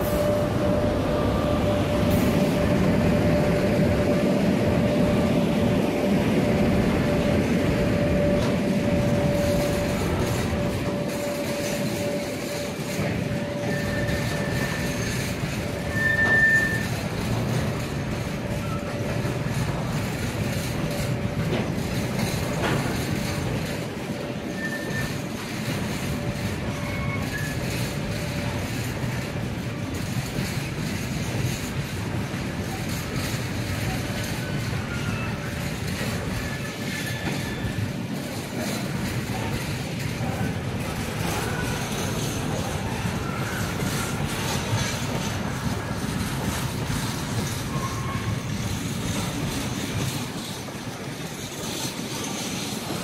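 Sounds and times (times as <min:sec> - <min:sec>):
train wheels rumbling on rails: 0:00.0 - 0:53.0
high wheel squeals: 0:06.6 - 0:53.0.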